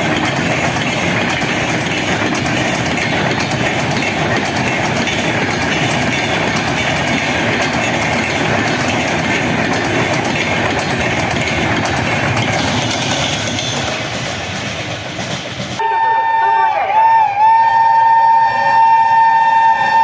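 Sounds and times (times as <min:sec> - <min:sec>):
wheels on rail roaring: 0:00.0 - 0:15.8, 0:17.6 - 0:20.0
train rushing past: 0:00.0 - 0:20.0.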